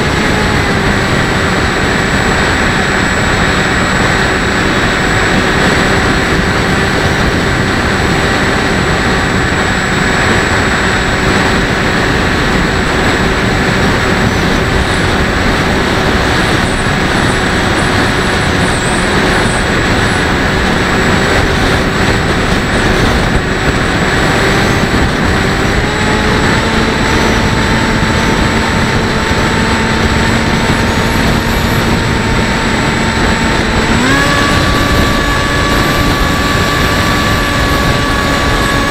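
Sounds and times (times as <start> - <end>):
electric motor and propeller whining: 0.0 - 38.9
wind rush: 0.0 - 38.9.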